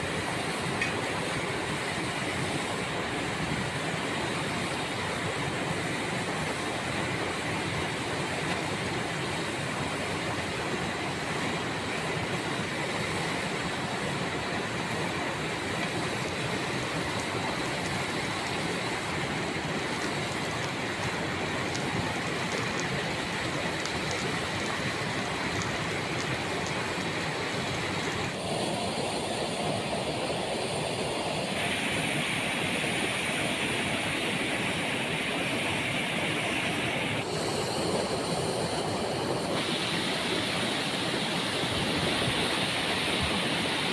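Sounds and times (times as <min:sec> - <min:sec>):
waterfall rushing water: 0:00.0 - 0:43.9.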